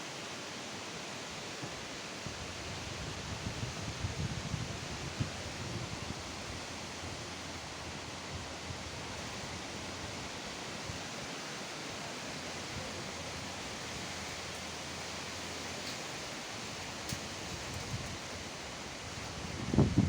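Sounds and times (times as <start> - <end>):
strong wind blowing: 2.2 - 11.3, 12.0 - 20.0.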